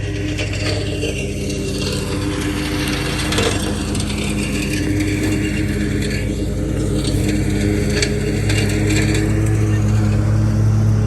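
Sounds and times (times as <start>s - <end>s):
engine-driven machine running: 0.0s - 11.0s
mechanical rattling and clattering: 0.0s - 11.0s.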